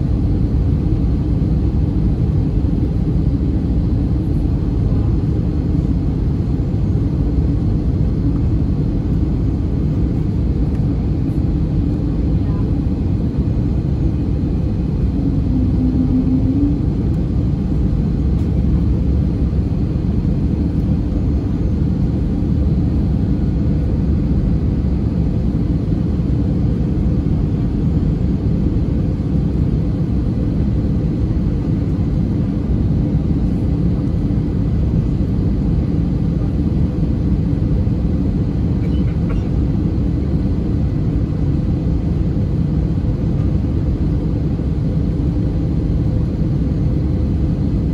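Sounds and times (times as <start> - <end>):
aircraft cabin engine drone: 0.0 - 47.9.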